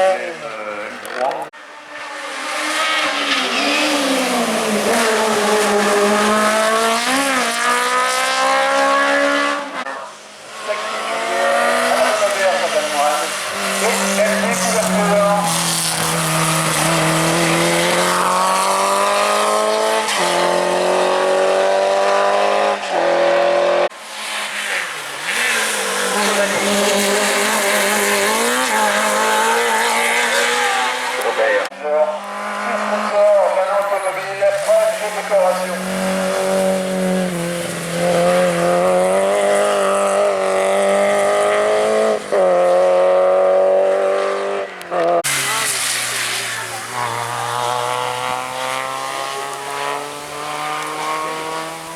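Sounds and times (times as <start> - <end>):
race car engine accelerating: 0.0 - 51.9.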